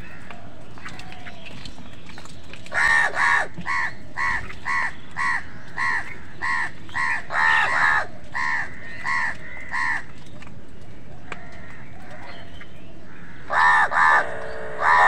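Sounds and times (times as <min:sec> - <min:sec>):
crows cawing: 0:00.0 - 0:01.4, 0:02.7 - 0:10.2, 0:11.3 - 0:15.0.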